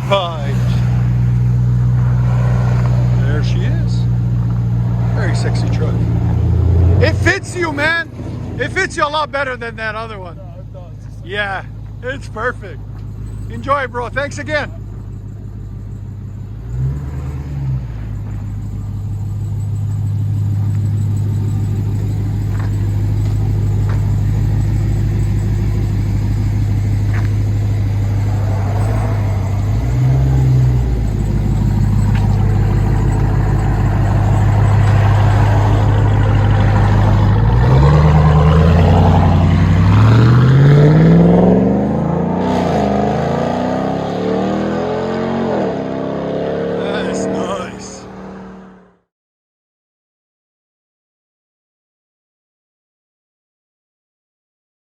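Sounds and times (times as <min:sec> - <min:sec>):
engine throttle blips: 0:00.0 - 0:48.7
truck exhaust droning: 0:00.0 - 0:49.0.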